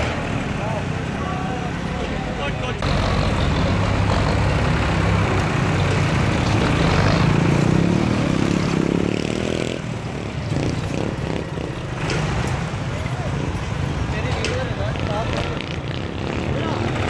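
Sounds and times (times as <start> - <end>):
tractor engine running hard: 0.0 - 17.0.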